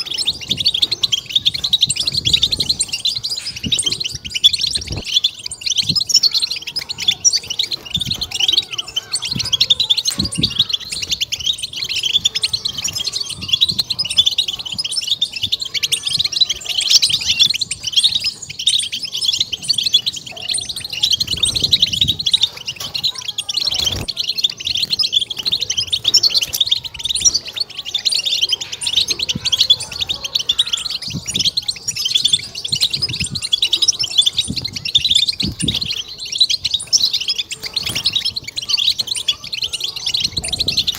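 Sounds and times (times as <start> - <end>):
goldfinch twittering: 0.0 - 40.9.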